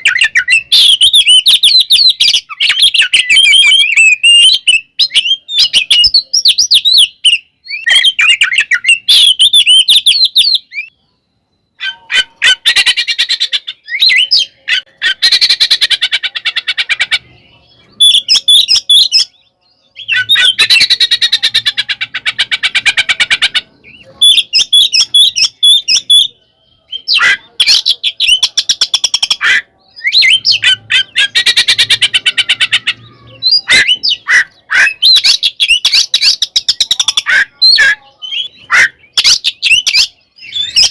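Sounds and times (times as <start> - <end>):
magpie-robin singing: 0.0 - 40.9.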